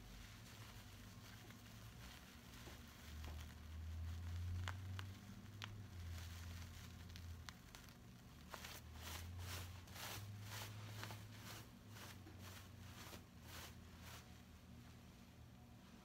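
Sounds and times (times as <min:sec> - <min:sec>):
metallic fabric rustling: 0:00.0 - 0:16.0.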